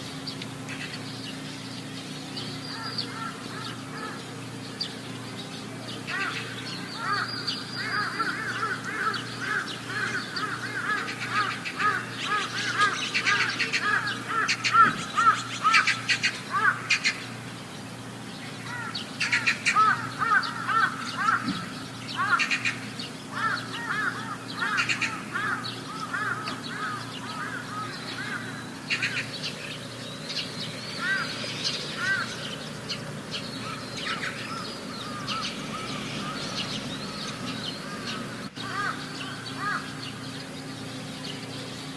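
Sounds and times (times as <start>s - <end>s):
faint steady hum: 0.0s - 41.9s
animals making high calls: 2.5s - 4.8s, 5.8s - 17.5s, 18.6s - 40.9s.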